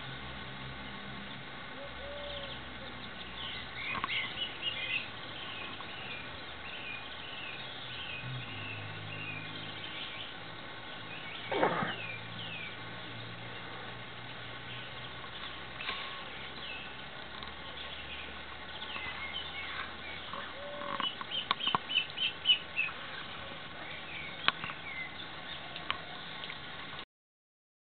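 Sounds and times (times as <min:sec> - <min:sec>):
birds chirping: 0:01.2 - 0:26.8.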